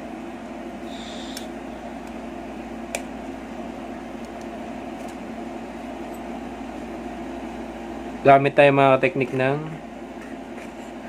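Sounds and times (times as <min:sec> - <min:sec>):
fan machine humming: 0:00.0 - 0:11.0.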